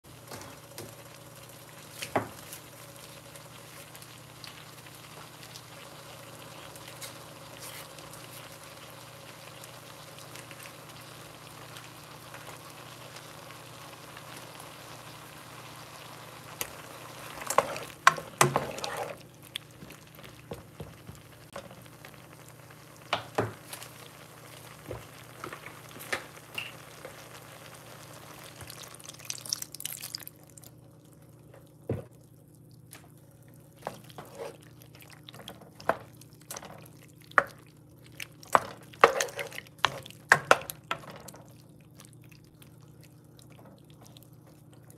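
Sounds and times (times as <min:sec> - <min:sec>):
pasta sizzling in frying pan: 0:00.1 - 0:31.3, 0:33.7 - 0:41.8.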